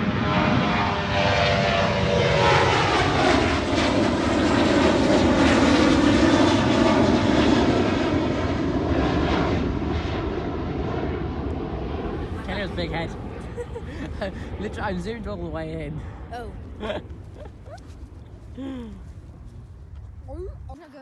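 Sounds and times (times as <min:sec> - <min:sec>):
jet engines roaring: 0:00.0 - 0:17.6.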